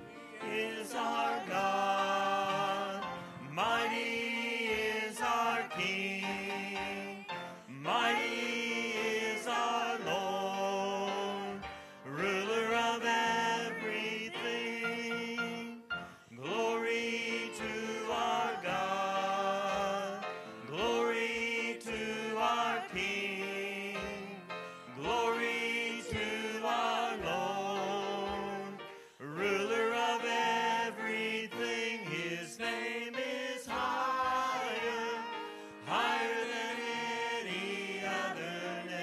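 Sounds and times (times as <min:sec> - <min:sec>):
sung worship phrases: 0:00.0 - 0:39.0.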